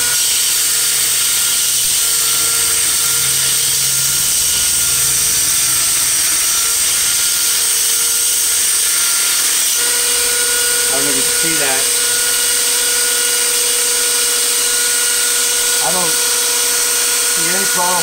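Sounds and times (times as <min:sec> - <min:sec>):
belt grinder motor whine: 0:00.0 - 0:18.0.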